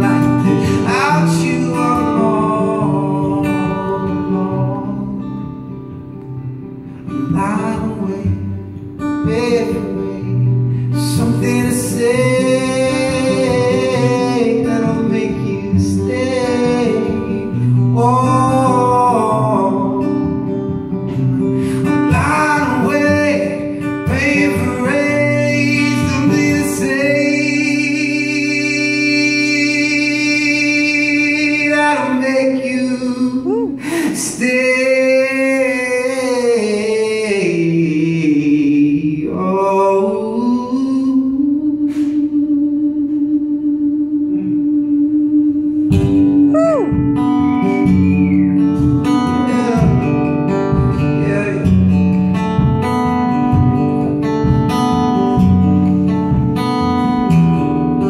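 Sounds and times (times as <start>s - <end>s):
man singing: 0.0s - 5.8s, 7.0s - 58.0s
acoustic guitar: 0.0s - 58.0s.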